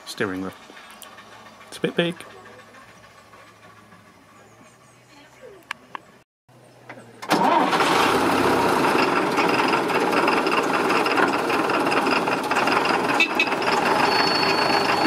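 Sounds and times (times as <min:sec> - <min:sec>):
bus engine running: 0:00.0 - 0:05.4, 0:07.0 - 0:15.0.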